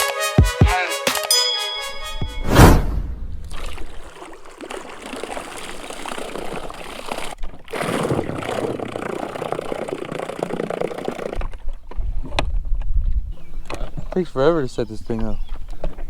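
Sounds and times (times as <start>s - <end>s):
water splashing and trickling: 3.0s - 16.0s.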